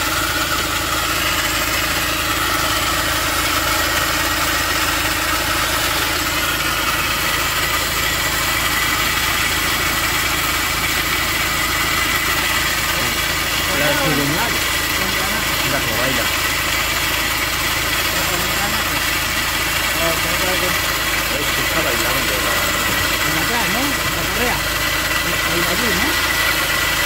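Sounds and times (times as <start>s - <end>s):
car engine idling: 0.0s - 27.0s
pulley running on worn bearings: 0.0s - 27.0s.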